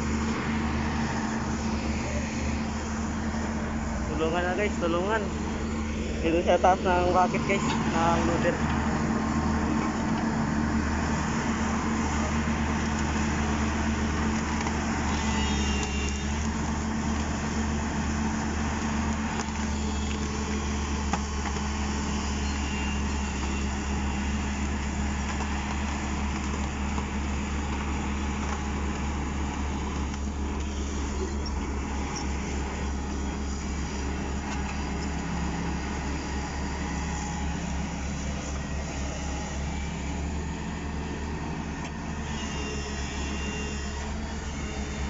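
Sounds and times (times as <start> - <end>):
bulldozer working: 0.0 - 45.0
excavator diesel engine drone: 0.0 - 45.0.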